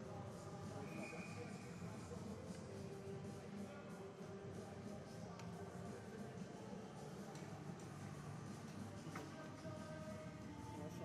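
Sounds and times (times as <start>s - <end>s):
faint background music: 0.0s - 11.0s
steady murmur of noise: 0.0s - 11.0s.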